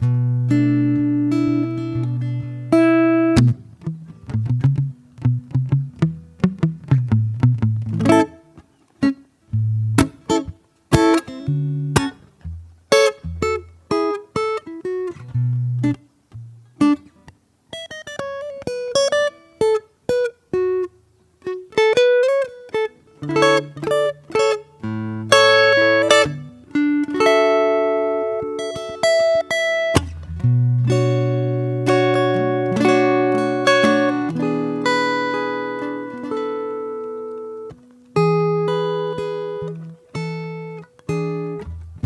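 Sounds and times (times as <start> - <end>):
acoustic guitar improvisation: 0.0 - 42.0.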